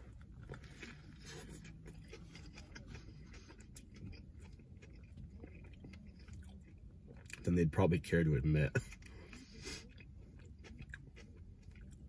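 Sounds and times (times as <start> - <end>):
faint chewing: 0.0 - 7.5, 8.8 - 12.0.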